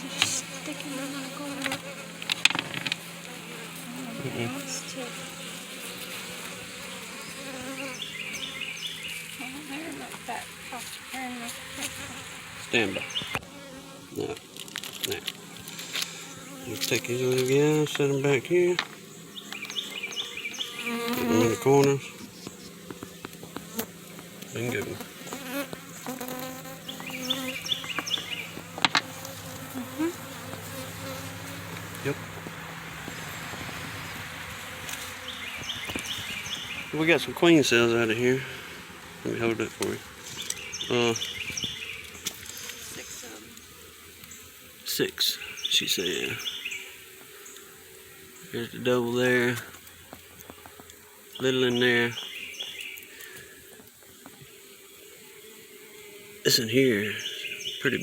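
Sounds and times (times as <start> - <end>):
bees flying close by: 0.0 - 58.0
honeybees buzzing: 0.0 - 58.0.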